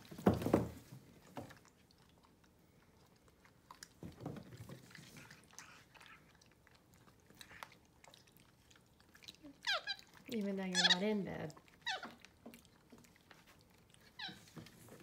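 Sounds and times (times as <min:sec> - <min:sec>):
monkeys chewing: 0:01.0 - 0:15.0.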